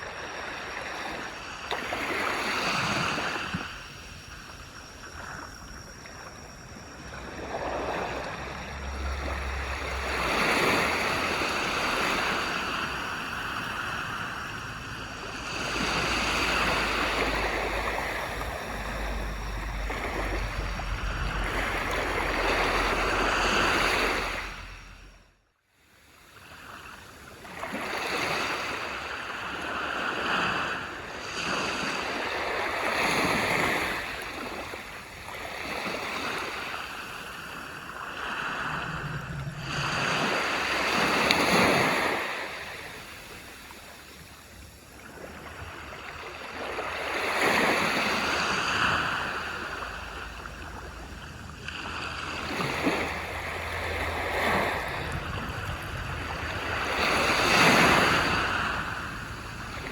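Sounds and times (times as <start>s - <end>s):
waves washing onto beach: 0.0s - 25.2s, 26.0s - 59.9s.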